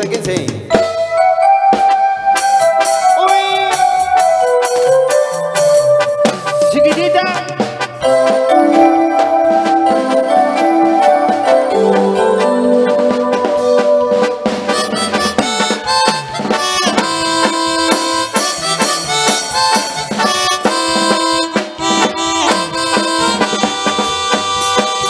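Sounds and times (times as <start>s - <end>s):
reedy lead melody: 0.0s - 25.0s
steady drum beat: 0.0s - 25.0s.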